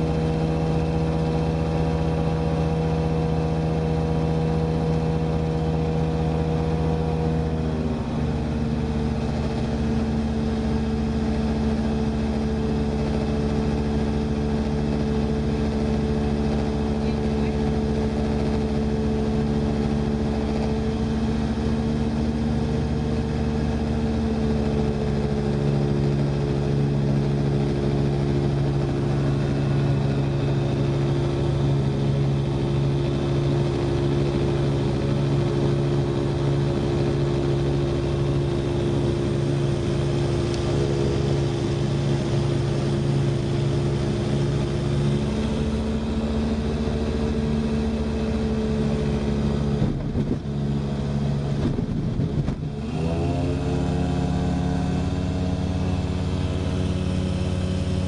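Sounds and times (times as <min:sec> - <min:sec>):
aircraft engine and propeller: 0:00.0 - 0:58.0.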